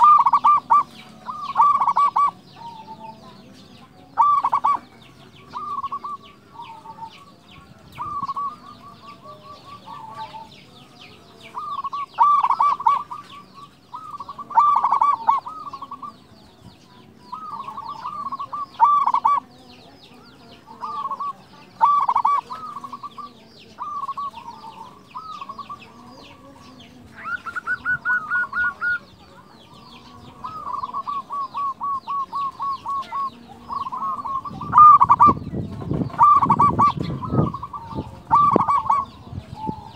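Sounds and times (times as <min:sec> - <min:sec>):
dove cooing: 0:00.0 - 0:16.3, 0:17.2 - 0:39.9
small birds chirping: 0:00.0 - 0:39.9.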